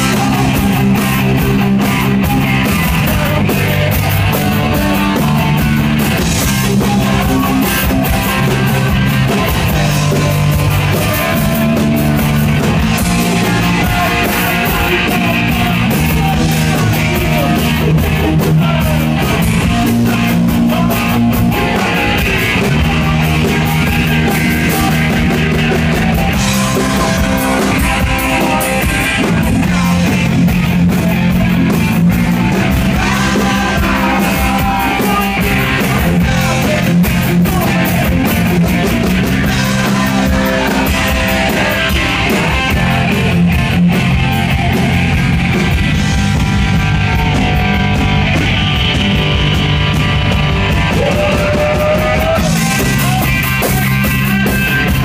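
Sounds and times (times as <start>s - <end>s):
bass guitar: 0.0s - 55.0s
distorted electric guitars: 0.0s - 55.0s
drum kit: 0.0s - 55.0s.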